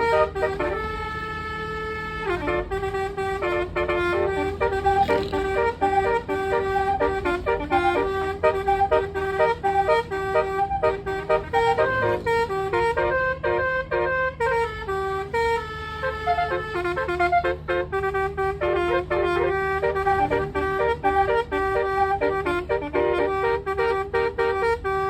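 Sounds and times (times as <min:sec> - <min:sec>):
musical car horn tune: 0:00.0 - 0:25.0.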